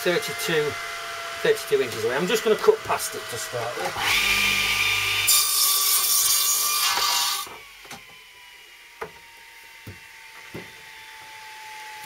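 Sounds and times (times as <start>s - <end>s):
mitre saw cutting wood: 0.0s - 12.0s
saw blade whine: 0.0s - 12.0s.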